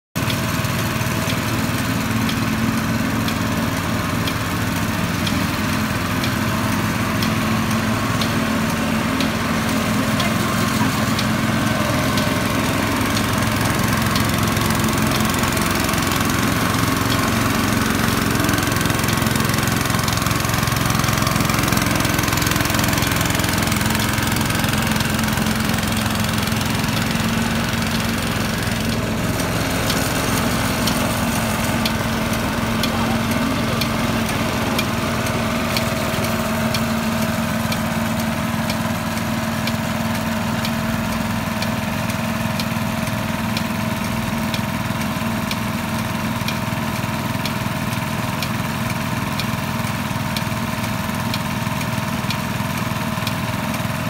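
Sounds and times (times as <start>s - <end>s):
small petrol engine running: 0.2s - 54.0s
faint regular ticking: 0.3s - 53.8s.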